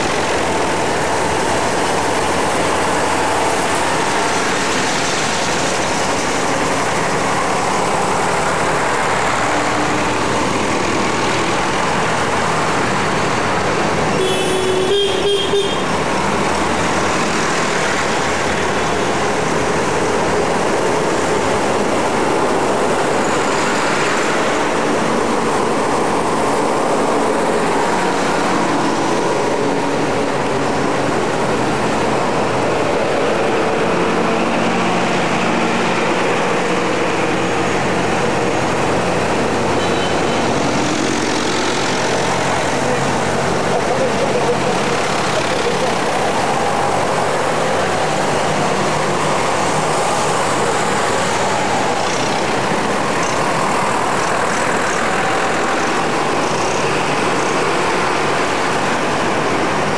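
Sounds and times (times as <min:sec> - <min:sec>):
diesel tractors driving past: 0:00.0 - 0:59.9
passing car traffic: 0:00.0 - 0:59.9.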